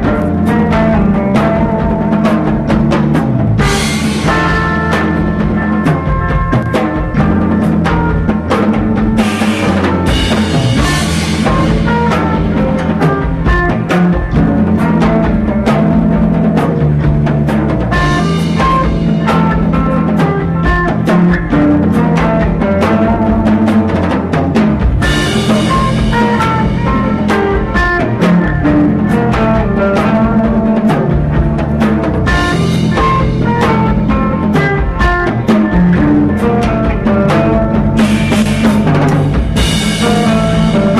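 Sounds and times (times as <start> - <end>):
band playing live: 0.0 - 40.9
drum kit beat: 0.0 - 40.9.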